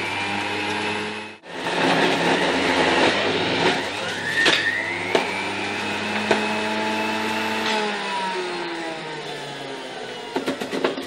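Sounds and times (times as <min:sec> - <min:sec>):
juicer motor running: 0:00.0 - 0:10.2.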